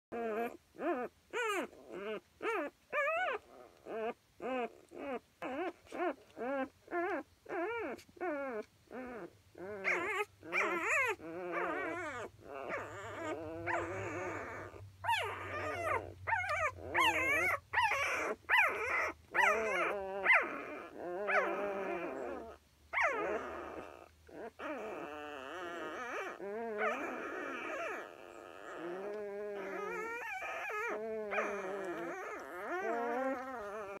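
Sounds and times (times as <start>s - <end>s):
puppies whimpering and squealing: 0.1s - 34.0s.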